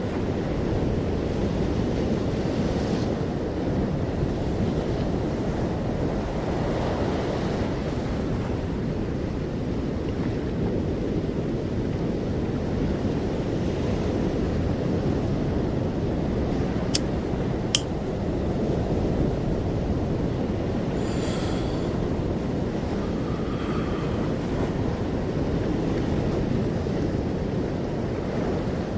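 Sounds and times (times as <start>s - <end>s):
wind on microphone: 0.0s - 28.9s.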